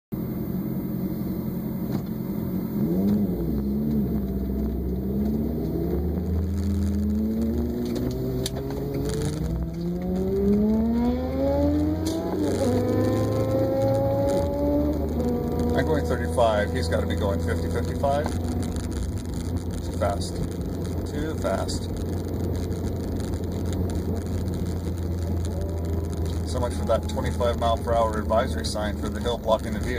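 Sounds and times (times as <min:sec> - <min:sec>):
road rumble: 0:00.1 - 0:29.9
vehicle engine accelerating: 0:00.2 - 0:29.9.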